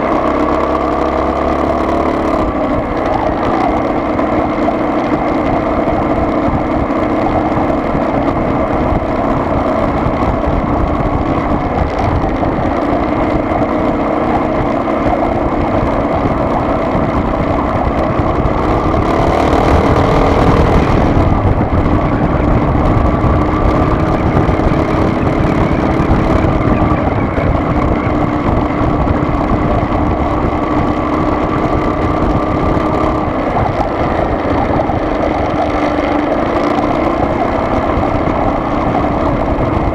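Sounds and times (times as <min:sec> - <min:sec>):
car engine humming: 0:00.0 - 0:39.9
road noise: 0:00.0 - 0:39.9.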